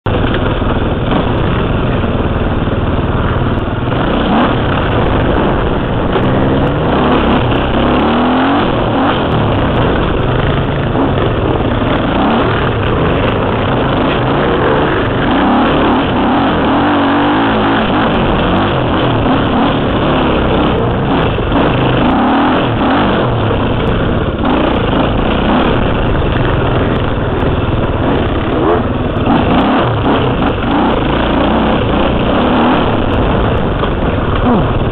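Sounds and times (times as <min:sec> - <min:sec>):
two-stroke motorcycle engine revving: 0:00.1 - 0:34.9.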